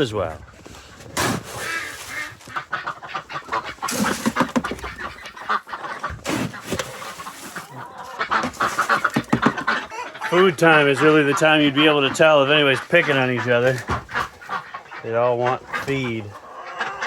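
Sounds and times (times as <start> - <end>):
ducks quacking: 0.0 - 17.0
hens clucking: 0.0 - 17.0.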